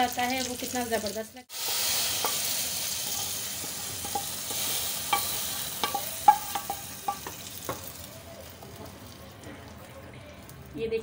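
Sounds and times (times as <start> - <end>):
oil sizzling: 0.0 - 10.7.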